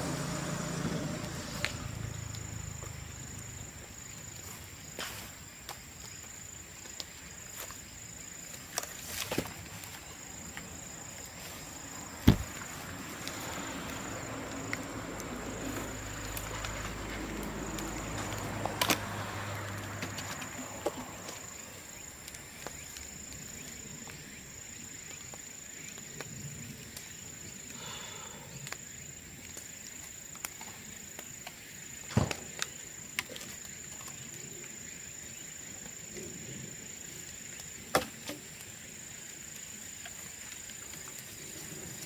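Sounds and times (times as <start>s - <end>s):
bamboo bonfire crackling and popping: 0.0s - 27.9s, 28.5s - 42.0s
high insect trill: 0.0s - 42.0s.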